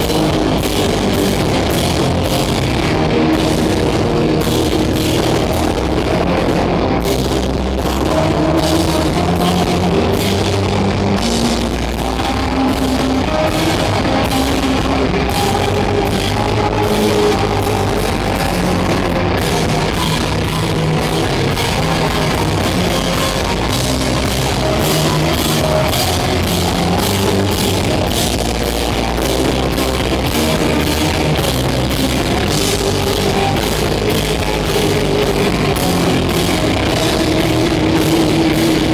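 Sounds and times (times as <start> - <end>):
drum kit beat: 0.0 - 38.9
electric bass: 0.0 - 38.9
electric guitar: 0.0 - 38.9.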